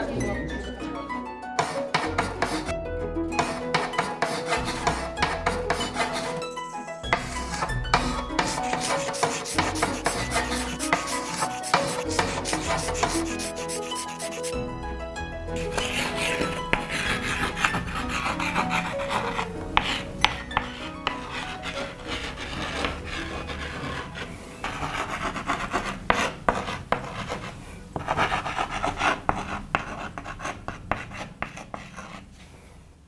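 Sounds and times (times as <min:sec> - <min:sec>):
faint music: 0:00.0 - 0:32.1
rasping and scraping: 0:01.6 - 0:02.7, 0:03.4 - 0:14.6, 0:15.6 - 0:32.7.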